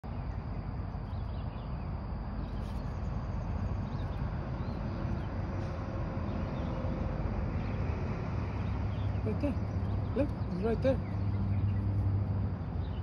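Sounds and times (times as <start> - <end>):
steady low rumble: 0.0 - 13.0
small birds chirping: 0.1 - 13.0.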